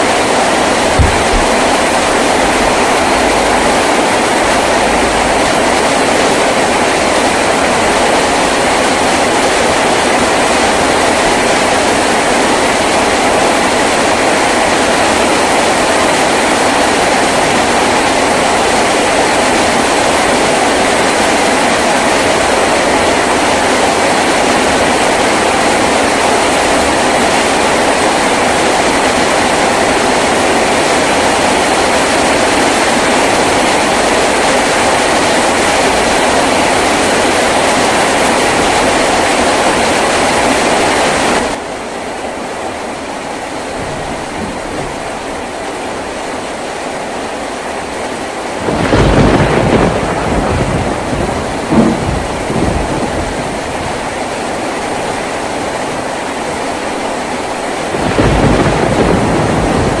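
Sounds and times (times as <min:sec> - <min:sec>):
heavy rain on a tin roof: 0:00.0 - 1:00.0.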